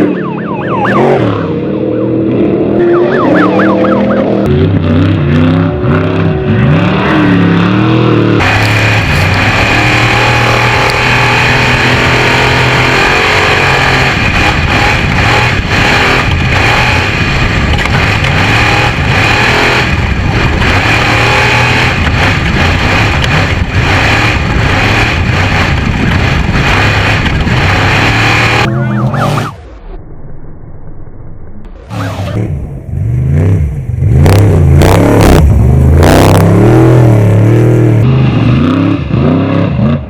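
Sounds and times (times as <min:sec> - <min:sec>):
race vehicle engine running loud: 0:00.0 - 0:29.9, 0:31.6 - 0:40.0.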